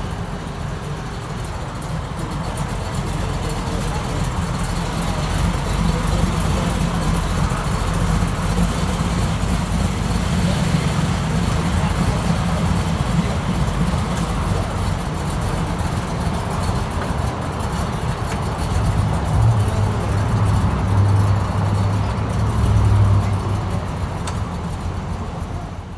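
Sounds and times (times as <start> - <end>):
car engine rumbling: 0.0 - 25.9.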